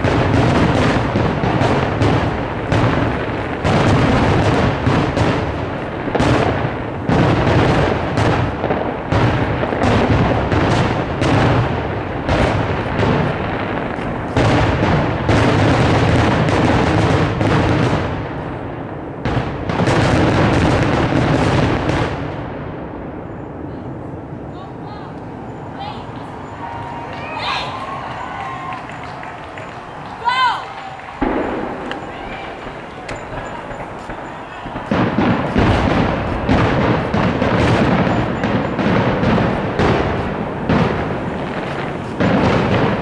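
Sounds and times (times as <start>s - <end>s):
firework shells bursting: 0.0s - 22.3s, 25.1s - 43.0s.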